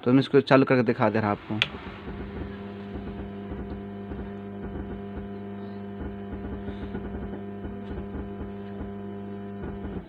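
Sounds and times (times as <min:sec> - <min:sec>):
deep mains hum: 0:00.9 - 0:10.0.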